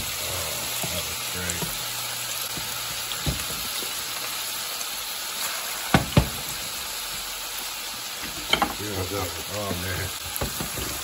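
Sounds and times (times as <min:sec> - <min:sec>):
fish sizzling in a skillet: 0:00.0 - 0:11.0.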